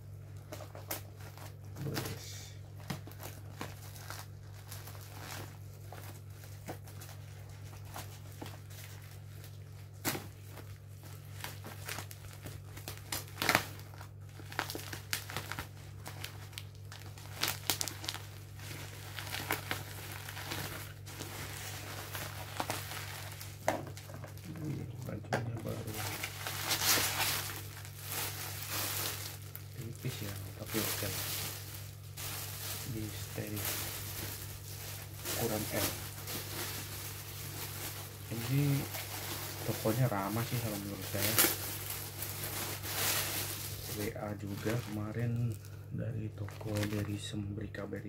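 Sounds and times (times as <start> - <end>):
plastic bag crinkling: 0.2 - 45.8, 46.4 - 47.4.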